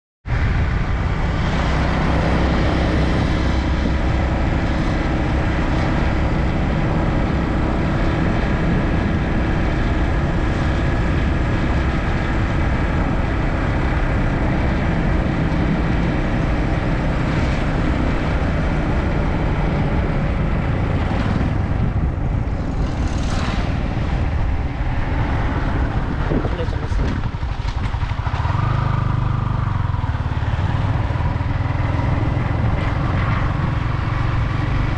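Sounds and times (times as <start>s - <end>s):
wind rushing over microphone: 0.2s - 34.9s
motorcycle engine running: 0.4s - 34.9s.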